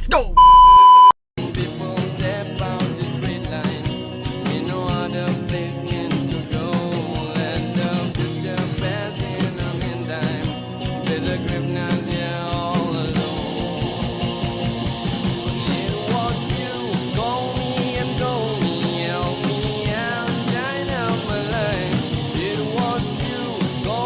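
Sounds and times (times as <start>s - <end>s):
rock song with singing: 1.4s - 24.0s.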